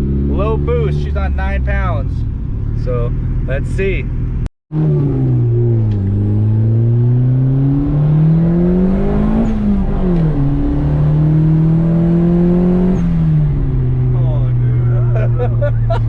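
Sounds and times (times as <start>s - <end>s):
car engine accelerating: 2.3s - 16.0s.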